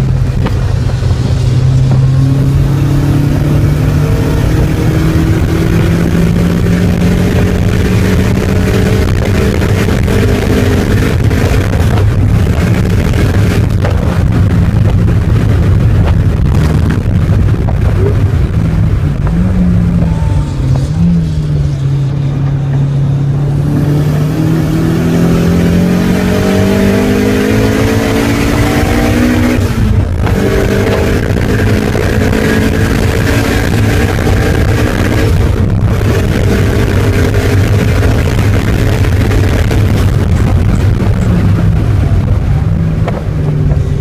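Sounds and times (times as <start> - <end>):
car engine revving: 0.0 - 44.0
wind and road noise: 0.0 - 44.0.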